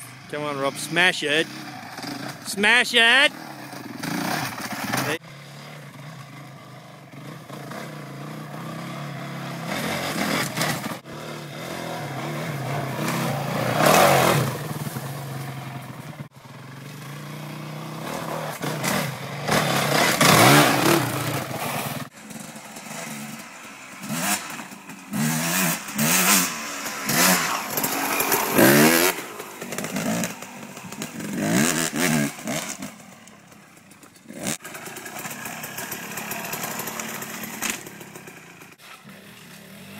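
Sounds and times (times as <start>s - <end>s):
dirt bike engine revving: 0.0s - 33.6s, 34.2s - 39.9s.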